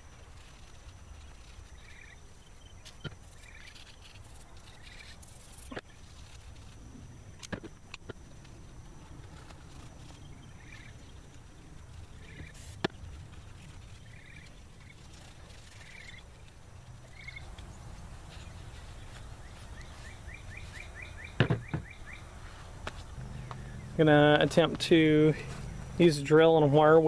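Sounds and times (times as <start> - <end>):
bird chirping: 1.2 - 6.1, 9.0 - 27.0.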